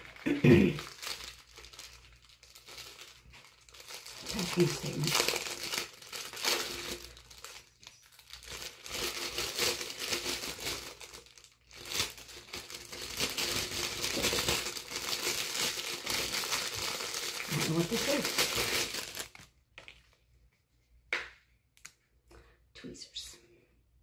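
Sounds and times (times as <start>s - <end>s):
plastic packaging crinkling: 0.0s - 20.2s.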